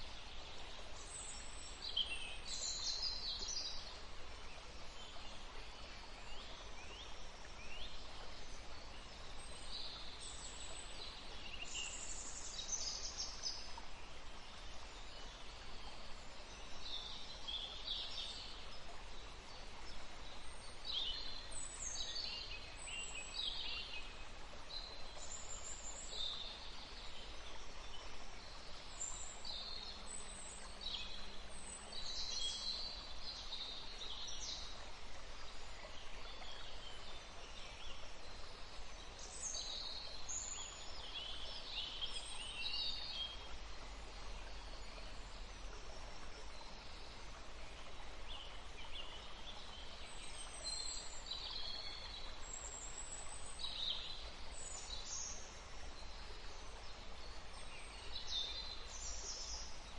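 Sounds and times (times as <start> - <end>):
forest stream rushing: 0.0 - 59.9
songbirds chirping: 0.0 - 59.9.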